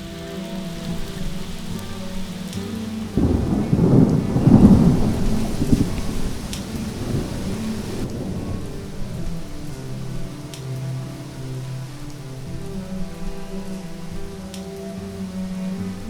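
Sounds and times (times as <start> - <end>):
thunder rumbling: 0.0 - 14.4
low musical notes: 0.0 - 16.0
steady rain: 0.0 - 16.0.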